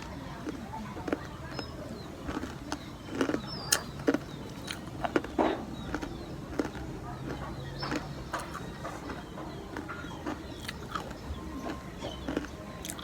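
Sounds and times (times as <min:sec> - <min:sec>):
crunchy chewing: 0:00.0 - 0:13.0
mouth clicks: 0:02.3 - 0:13.0.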